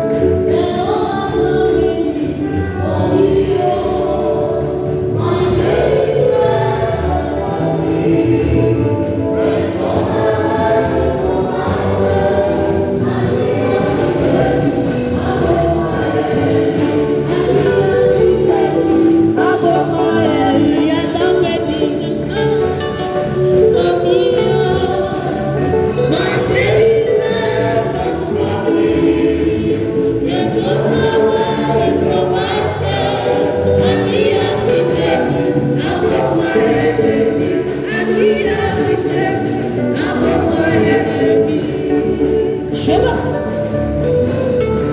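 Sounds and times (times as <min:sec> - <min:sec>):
choir singing gospel song: 0:00.0 - 0:44.9.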